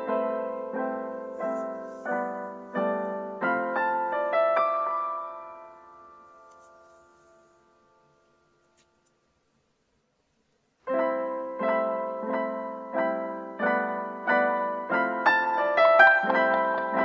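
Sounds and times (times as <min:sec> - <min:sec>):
gentle piano chords: 0:00.0 - 0:09.0, 0:10.8 - 0:17.0.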